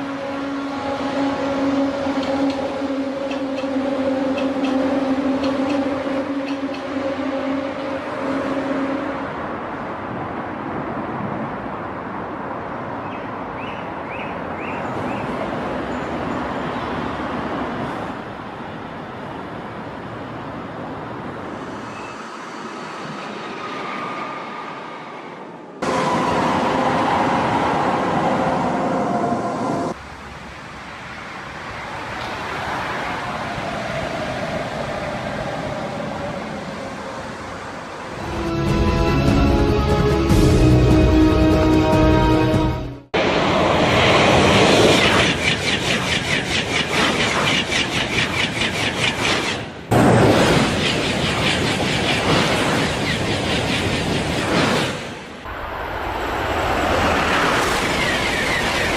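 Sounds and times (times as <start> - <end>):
high-speed train rushing: 0.0 - 58.9.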